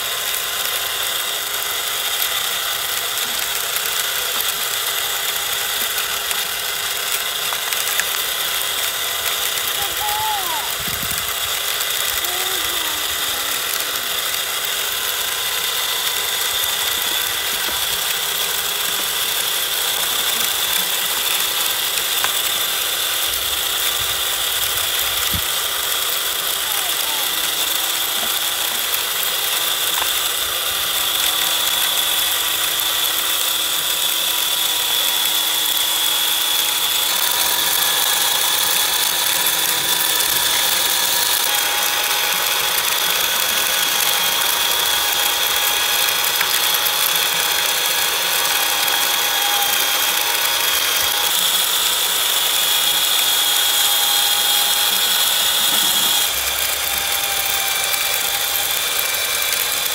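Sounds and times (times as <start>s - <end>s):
electric motor whine: 0.0s - 59.9s
gear chatter: 0.0s - 59.9s.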